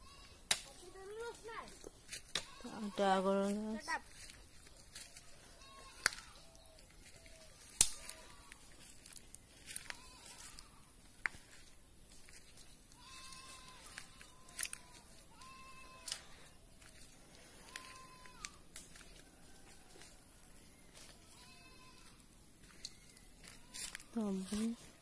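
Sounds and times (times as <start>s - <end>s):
footsteps crunching on dry leaves: 0.0s - 25.0s
twigs cracking: 0.5s - 2.7s, 4.0s - 24.8s.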